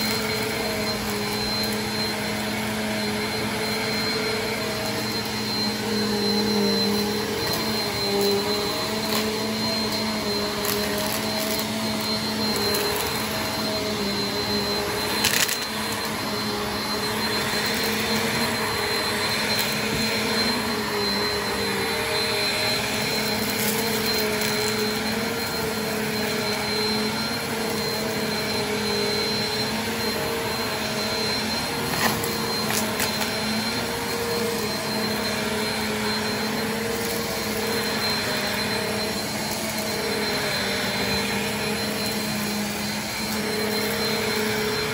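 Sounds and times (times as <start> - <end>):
vacuum cleaner running on carpet: 0.0 - 44.9.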